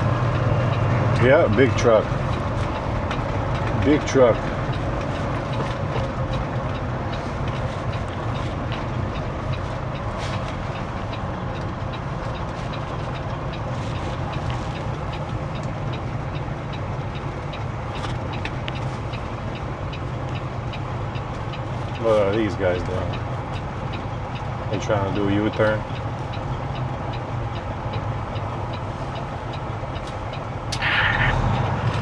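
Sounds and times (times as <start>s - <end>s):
truck diesel engine and road noise: 0.0s - 32.0s.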